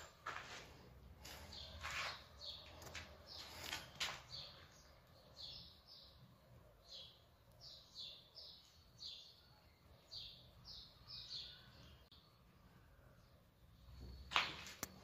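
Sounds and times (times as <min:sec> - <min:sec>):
bird chirping: 0:01.2 - 0:15.0.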